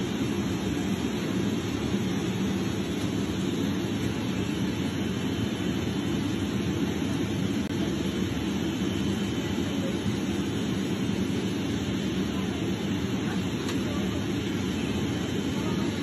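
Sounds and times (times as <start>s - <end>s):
jet airliner cabin noise: 0.0s - 16.0s.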